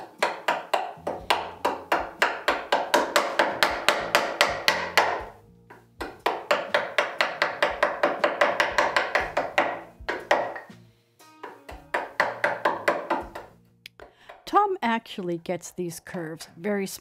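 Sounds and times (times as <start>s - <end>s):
mallet tapping chisel into wood: 0.0s - 10.8s, 11.4s - 14.5s.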